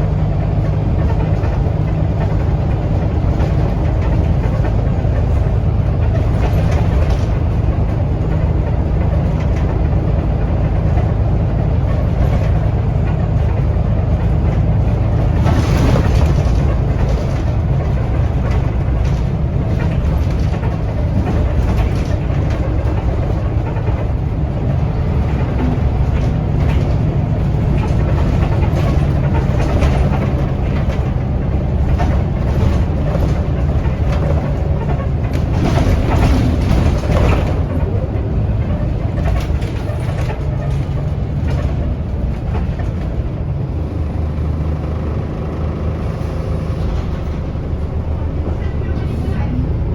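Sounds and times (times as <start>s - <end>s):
bus body rattles: 0.0s - 49.9s
bus engine rumble: 0.0s - 49.9s
road noise: 0.0s - 49.9s.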